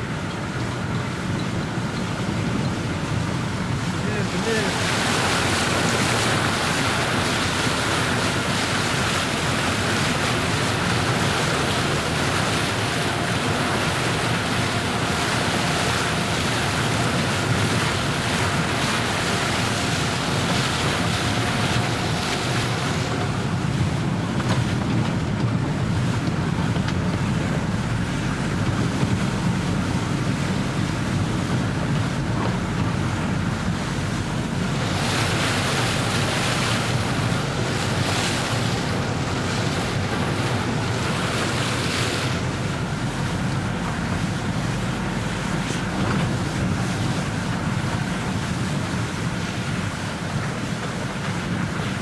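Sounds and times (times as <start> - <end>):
floodwater rushing: 0.0 - 52.0.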